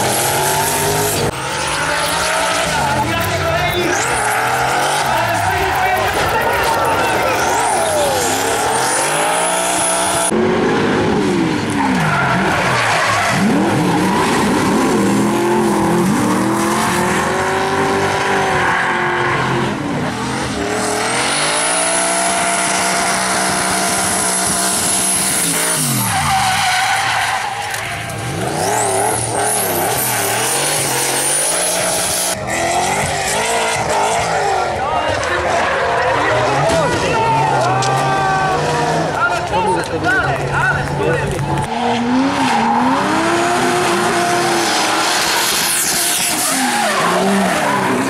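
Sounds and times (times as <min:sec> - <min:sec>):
tyres screeching on tarmac: 0:00.0 - 0:10.3, 0:11.7 - 0:19.7, 0:20.8 - 0:48.0
car engines revving hard: 0:00.0 - 0:48.0.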